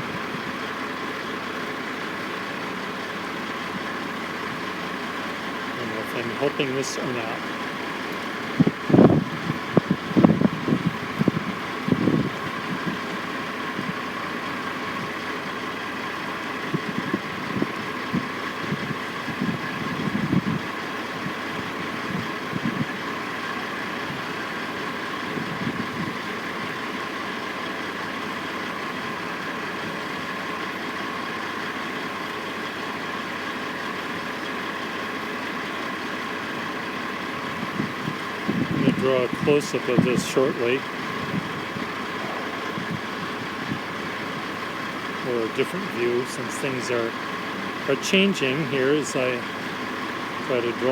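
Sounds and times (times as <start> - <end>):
heavy machinery diesel engines idling: 0.0 - 50.9.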